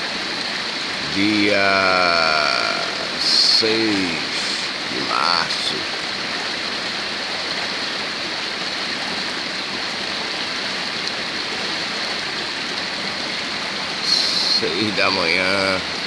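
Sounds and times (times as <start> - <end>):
heavy rain: 0.0 - 16.0
water rushing over street: 0.0 - 16.0.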